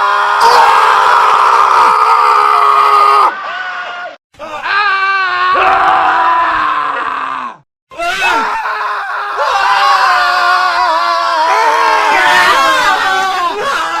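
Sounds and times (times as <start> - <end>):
men screaming: 0.0 - 14.0.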